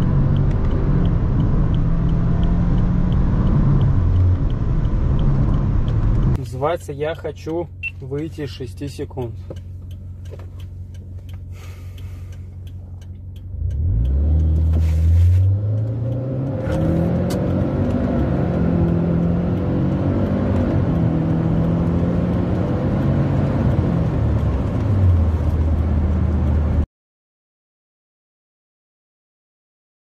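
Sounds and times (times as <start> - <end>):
car engine accelerating: 0.0 - 26.8.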